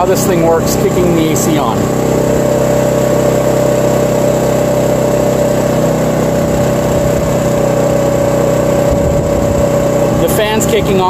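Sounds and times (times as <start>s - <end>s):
generator humming: 0.0s - 11.0s.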